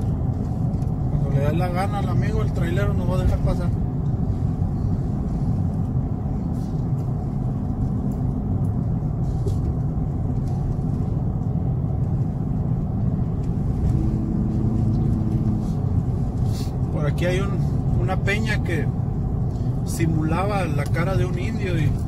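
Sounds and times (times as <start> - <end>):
vehicle cabin road rumble: 0.0 - 22.0.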